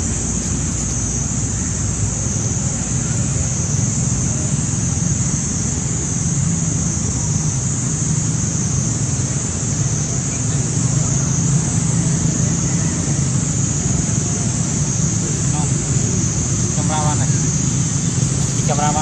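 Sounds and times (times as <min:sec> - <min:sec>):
high-pitched hiss: 0:00.0 - 0:19.0.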